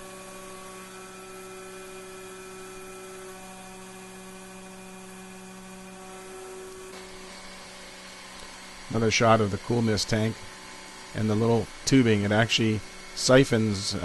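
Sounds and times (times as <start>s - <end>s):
milling machine humming: 0.0s - 14.0s.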